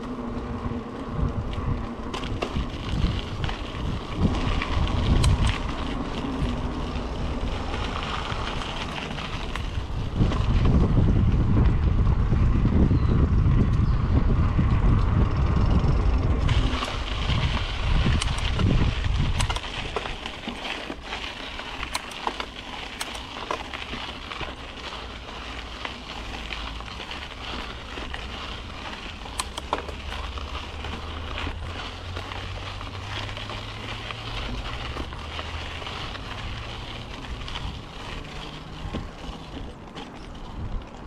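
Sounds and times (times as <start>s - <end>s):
bike clicks and rattles: 0.0s - 41.0s
bike tyres on dirt trail: 0.0s - 41.0s.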